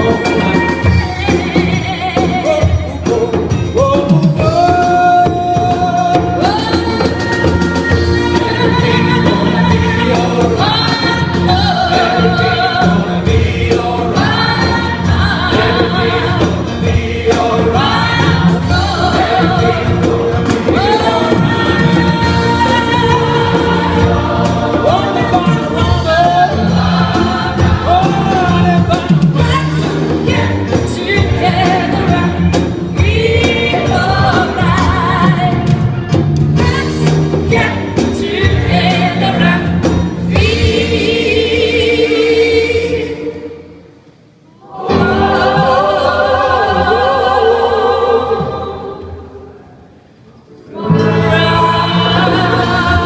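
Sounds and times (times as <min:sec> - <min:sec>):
choir singing gospel: 0:00.0 - 0:53.0.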